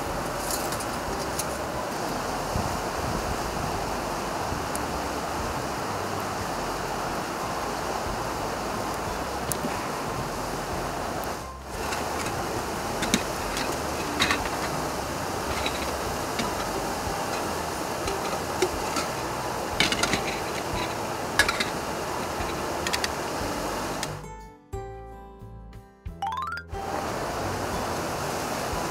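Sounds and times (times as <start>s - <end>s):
river water rushing: 0.0s - 24.2s, 26.8s - 28.9s.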